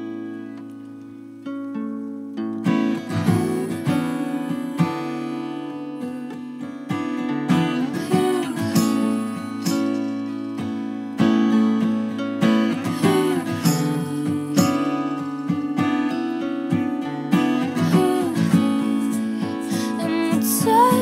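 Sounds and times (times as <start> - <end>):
acoustic guitars playing: 0.0 - 21.0.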